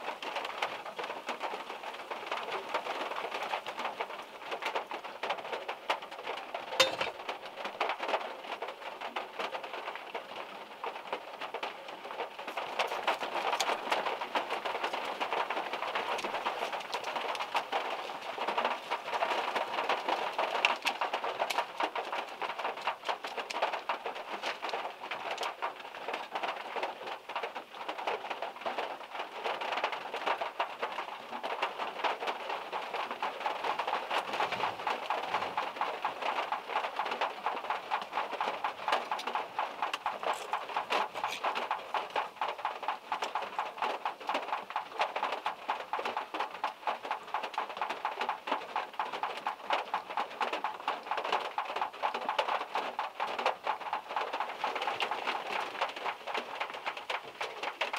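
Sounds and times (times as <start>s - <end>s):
rain pattering on a car roof: 0.0s - 57.9s.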